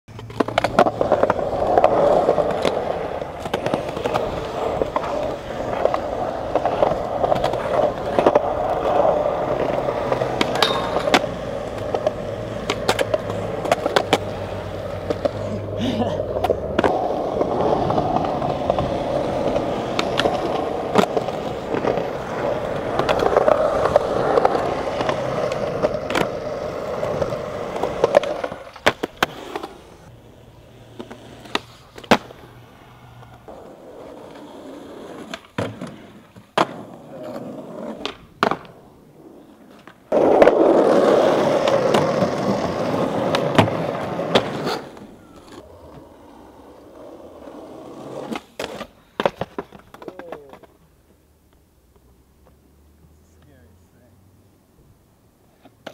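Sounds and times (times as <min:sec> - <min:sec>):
skateboard clacking on ground: 0:00.1 - 0:30.1, 0:30.7 - 0:52.6, 0:55.5 - 0:55.9
skateboard wheels rolling on concrete: 0:00.1 - 0:55.9.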